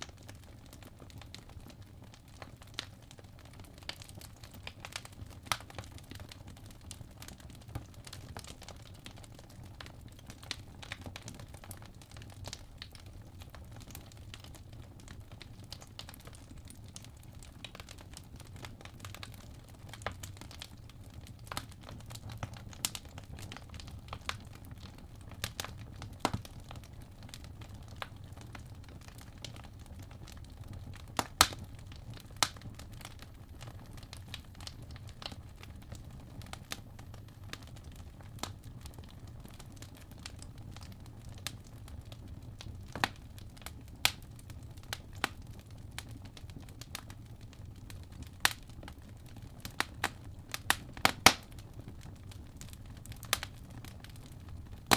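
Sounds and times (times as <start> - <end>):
low fire rumble: 0.0 - 54.9
wood fire crackling and popping: 0.0 - 54.9.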